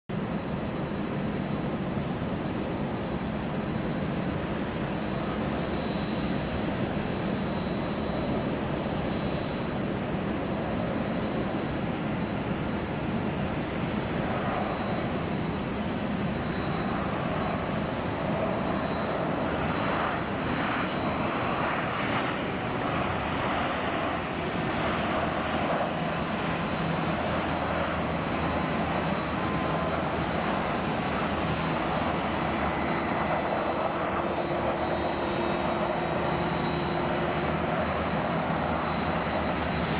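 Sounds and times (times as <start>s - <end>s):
jet engine rush and whine: 0.1s - 39.9s.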